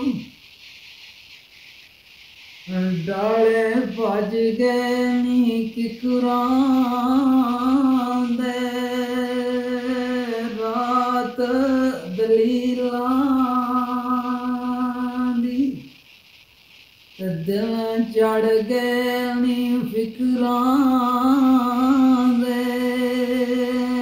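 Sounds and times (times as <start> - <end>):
man singing unaccompanied: 0.0 - 0.3, 2.7 - 15.9, 17.2 - 24.0.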